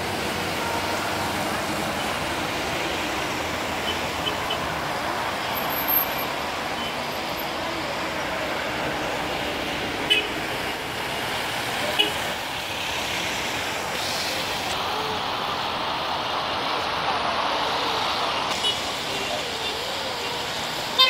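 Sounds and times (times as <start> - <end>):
traffic on wet road: 0.0 - 21.0.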